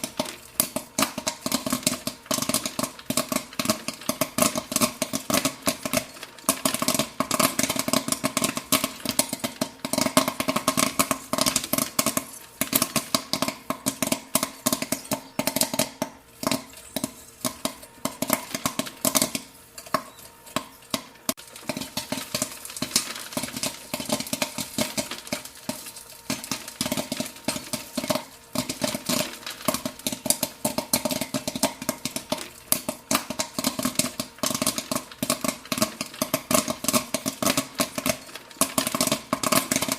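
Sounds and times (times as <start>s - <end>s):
popcorn popping: 0.0s - 39.9s.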